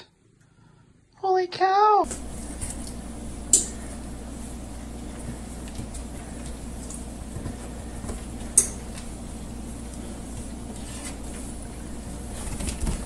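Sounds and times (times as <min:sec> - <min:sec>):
steady low hum: 0:02.0 - 0:13.0
dog and cat scuffling on floor: 0:02.1 - 0:13.0.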